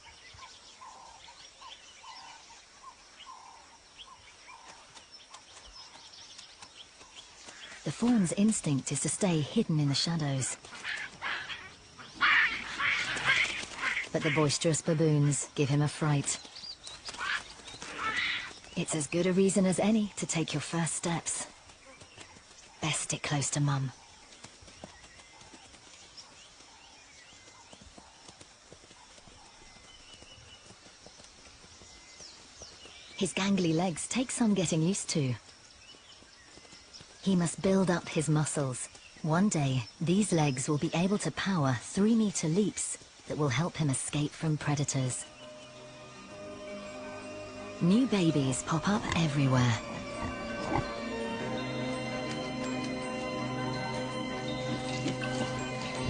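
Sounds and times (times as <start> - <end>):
hoof footsteps on dry ground: 3.3 - 56.0.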